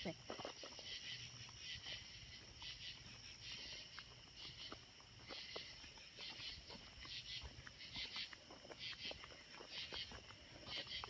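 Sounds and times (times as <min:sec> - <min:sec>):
insects buzzing and rasping: 0:00.0 - 0:11.0.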